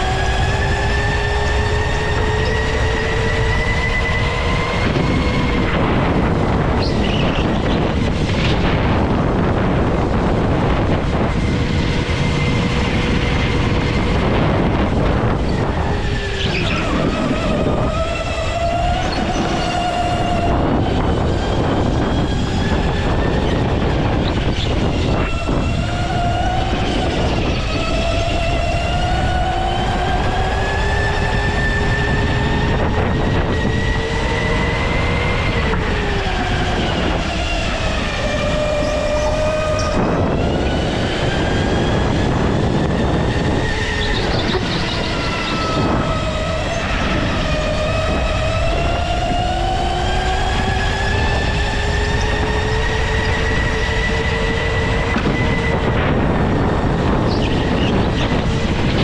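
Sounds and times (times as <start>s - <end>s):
go-kart motor whine: 0.0s - 59.0s.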